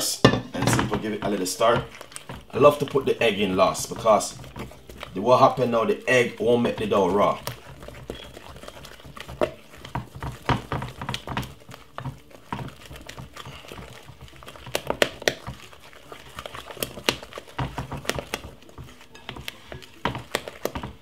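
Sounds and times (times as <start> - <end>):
utensil scraping glass bowl: 0.4 - 21.0.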